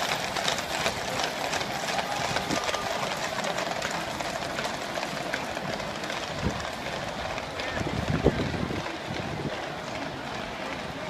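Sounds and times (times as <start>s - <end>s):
horse hooves clip-clopping on road: 0.0s - 11.0s.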